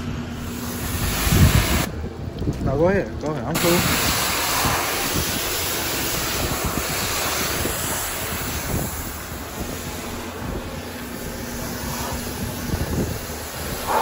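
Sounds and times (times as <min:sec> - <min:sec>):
pressure washer spray hissing: 0:00.4 - 0:01.9, 0:03.6 - 0:14.0.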